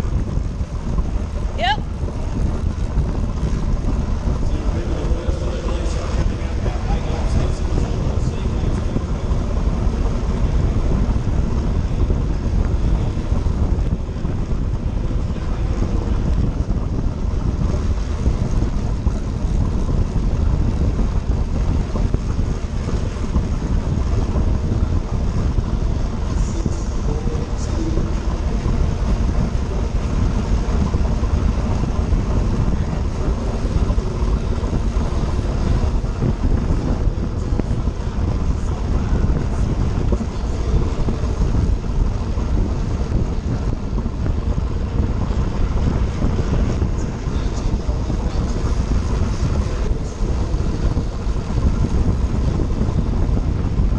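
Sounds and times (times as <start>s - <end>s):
low rumble: 0.0s - 53.9s
wind rush on microphone: 0.0s - 53.9s.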